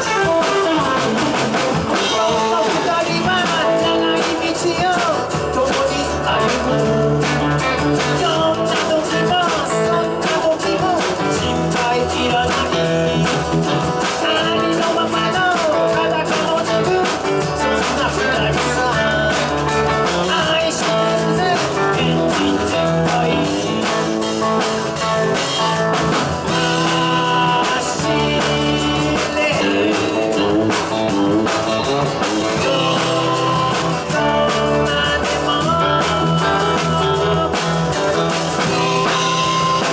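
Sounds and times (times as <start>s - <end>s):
lead guitar: 0.0s - 39.9s
rock and roll band playing: 0.0s - 39.9s.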